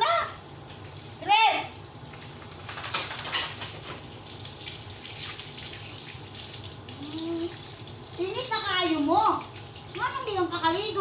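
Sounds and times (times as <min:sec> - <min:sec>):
hose spraying water: 0:00.0 - 0:11.0.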